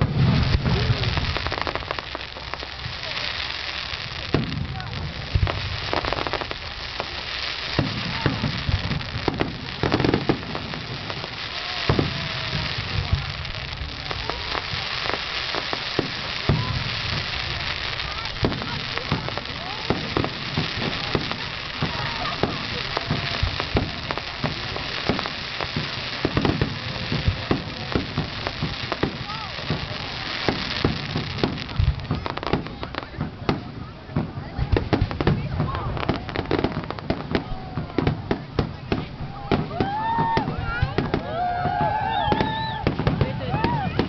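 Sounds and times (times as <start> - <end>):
fireworks bangs: 0.0 - 44.0
fireworks crackle: 0.0 - 44.0.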